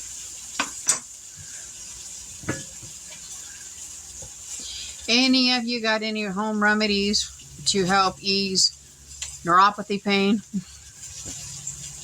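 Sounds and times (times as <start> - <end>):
chicken frying in grease: 0.0 - 12.0.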